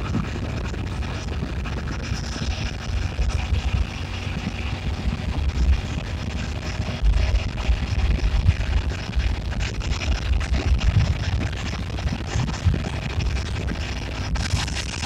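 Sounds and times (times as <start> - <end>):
motorcycle engine running: 0.0 - 15.0
tyres on the road: 0.0 - 15.0
wind buffeting microphone: 0.0 - 15.0.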